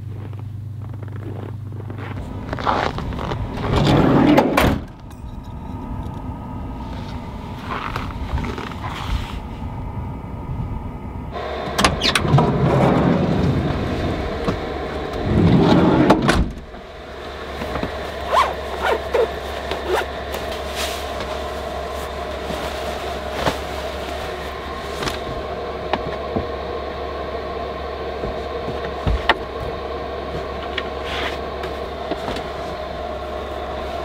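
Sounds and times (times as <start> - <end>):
van engine humming: 0.0 - 34.0.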